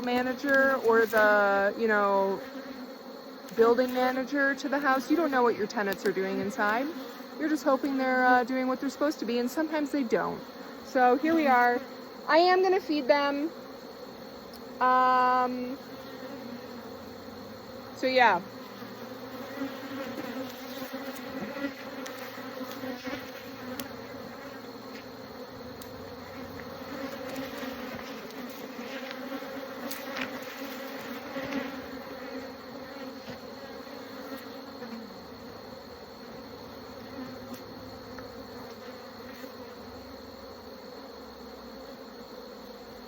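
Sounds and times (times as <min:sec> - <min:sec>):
honeybees humming: 0:00.0 - 0:43.0.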